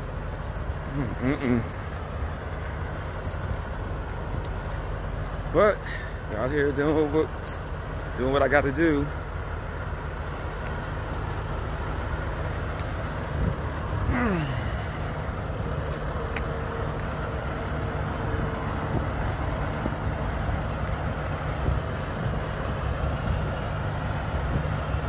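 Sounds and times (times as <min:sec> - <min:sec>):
diesel trucks idling: 0:00.0 - 0:25.0.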